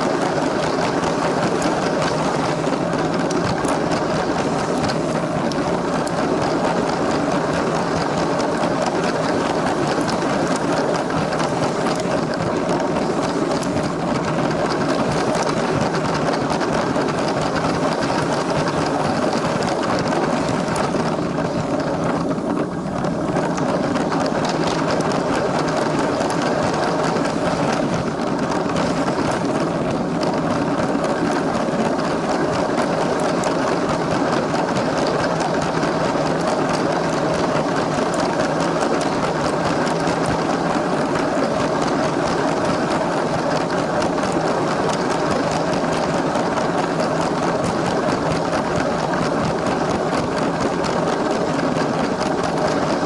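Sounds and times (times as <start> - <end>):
plastic wheels clicking on track: 0.0 - 53.0.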